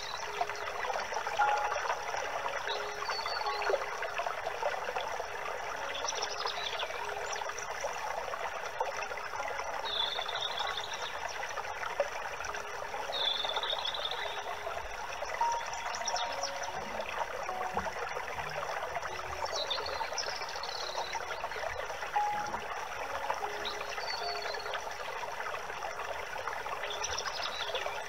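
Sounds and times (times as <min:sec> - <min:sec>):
trickling water: 0:00.0 - 0:28.0.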